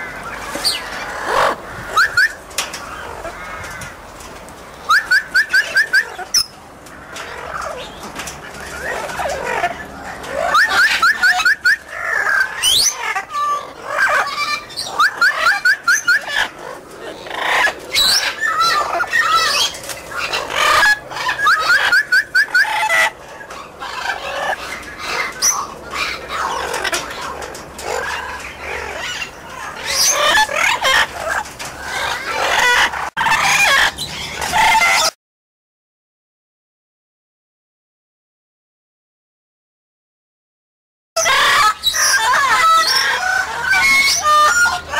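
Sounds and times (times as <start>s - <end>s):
parrots calling and chattering: 0.0s - 35.2s, 41.2s - 44.9s.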